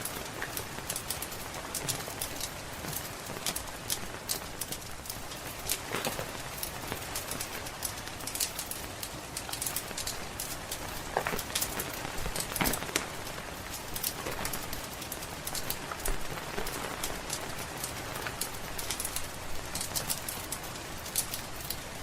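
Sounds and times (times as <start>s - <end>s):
steady rain falling: 0.0s - 22.0s
wood fire crackling and popping: 0.0s - 22.0s.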